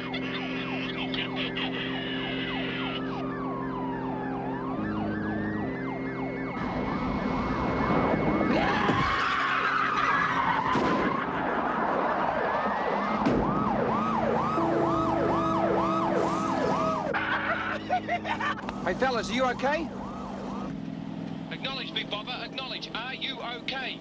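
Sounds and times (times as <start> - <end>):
police sirens wailing: 0.0 - 23.9
tyre and engine noise: 0.0 - 24.0.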